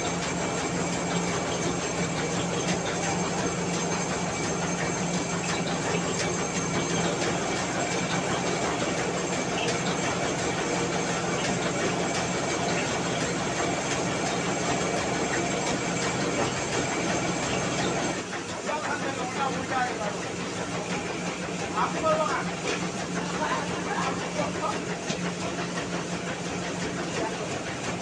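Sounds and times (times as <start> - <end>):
rice mill humming: 0.0 - 28.0.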